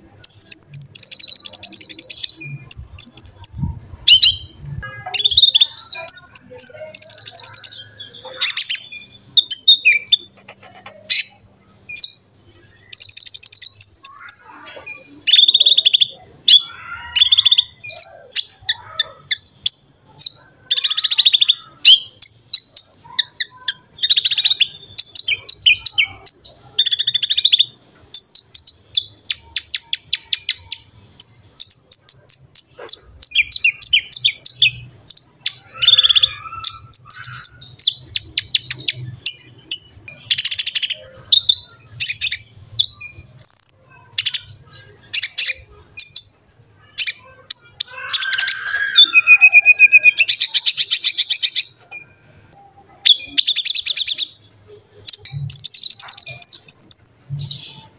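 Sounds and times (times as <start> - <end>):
bird singing high chirps and trills: 0.0 - 57.9.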